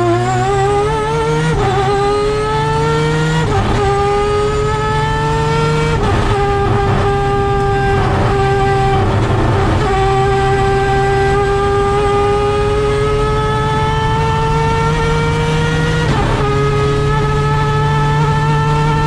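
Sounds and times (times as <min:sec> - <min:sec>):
rotary engine at racing speed: 0:00.0 - 0:19.0.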